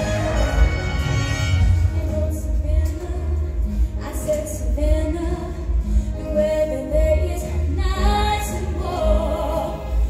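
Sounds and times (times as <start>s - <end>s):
live backing band: 0.0s - 10.0s.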